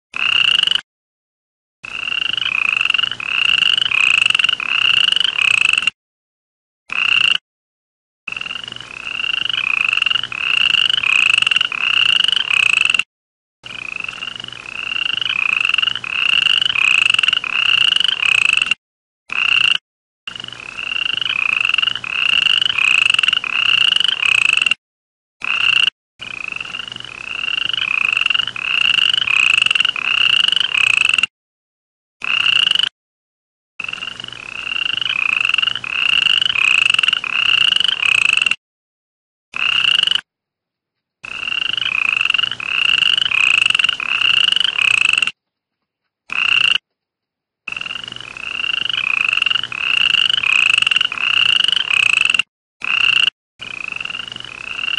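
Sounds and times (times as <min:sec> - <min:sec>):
toad calling: 0:00.2 - 0:00.8, 0:01.9 - 0:05.9, 0:06.9 - 0:07.4, 0:08.3 - 0:13.0, 0:13.6 - 0:24.8, 0:25.4 - 0:31.3, 0:32.2 - 0:32.9, 0:33.8 - 0:38.6, 0:39.5 - 0:40.3, 0:41.0 - 0:47.0, 0:47.7 - 0:54.9.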